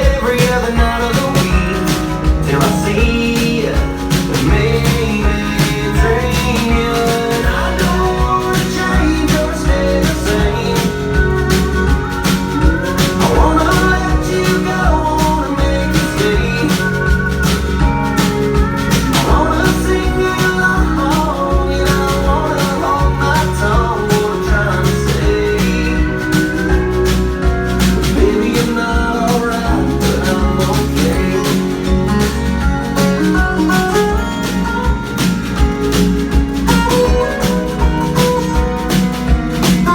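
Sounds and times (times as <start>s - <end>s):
country rock band music: 0.0s - 39.9s.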